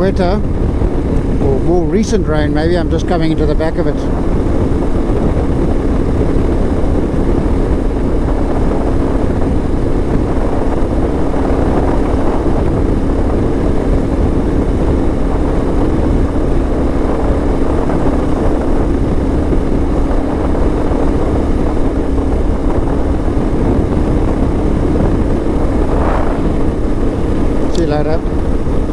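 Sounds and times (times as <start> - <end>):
motorcycle engine drone: 0.0 - 28.9
rushing wind: 0.0 - 28.9.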